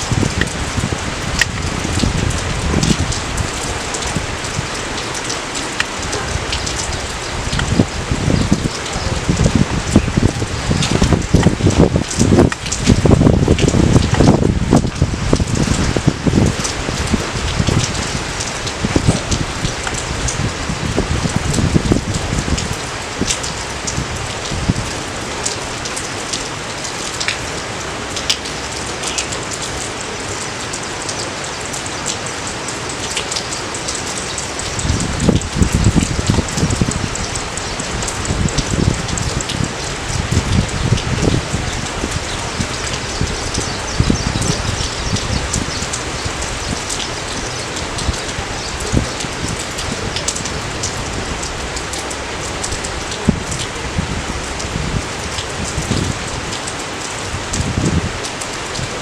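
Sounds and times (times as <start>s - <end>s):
raindrops ticking sharply: 0.0s - 59.0s
steady rain falling: 0.0s - 59.0s.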